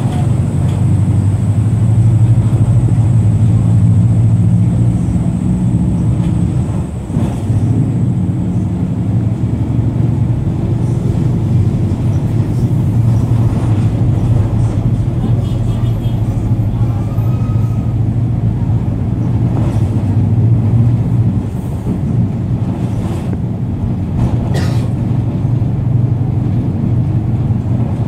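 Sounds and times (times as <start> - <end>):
bus diesel engine drone: 0.0 - 28.0.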